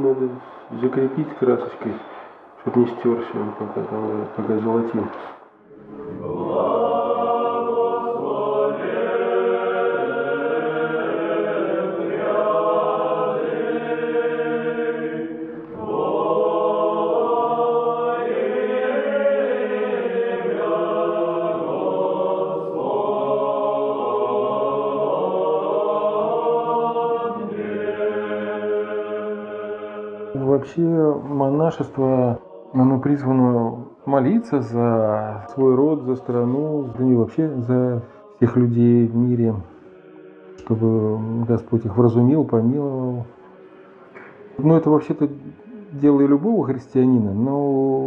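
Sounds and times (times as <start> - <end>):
choir singing church chant: 0.0 - 48.0.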